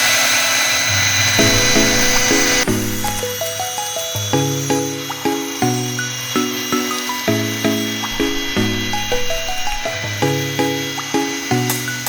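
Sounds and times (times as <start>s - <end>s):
router spindle whining: 0.0s - 3.4s, 4.6s - 12.0s
background music: 1.1s - 12.0s.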